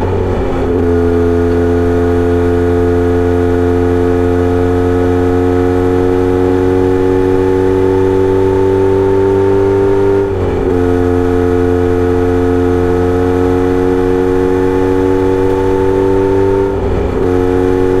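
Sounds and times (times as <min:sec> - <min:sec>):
motorcycle exhaust revving: 0:00.0 - 0:18.0.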